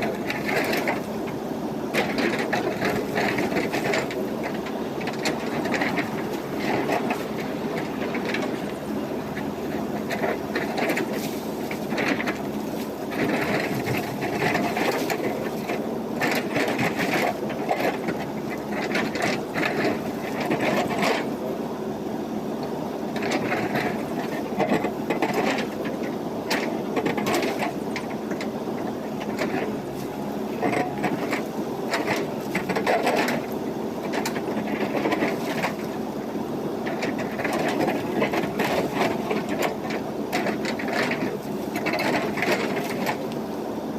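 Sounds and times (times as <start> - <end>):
diesel engine running: 0.0 - 43.9
gravel clattering and rattling: 0.0 - 43.9.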